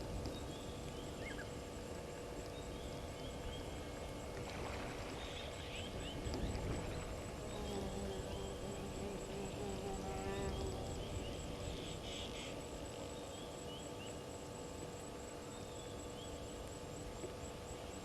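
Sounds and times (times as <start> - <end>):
pulsing insect trill: 0.0 - 18.0.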